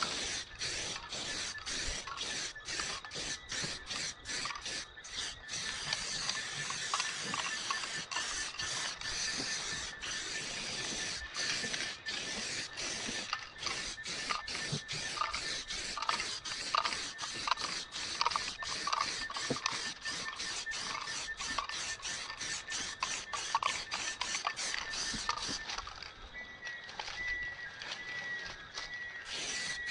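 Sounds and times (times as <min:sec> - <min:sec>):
spray paint can hissing: 0:00.0 - 0:25.9, 0:29.2 - 0:29.9.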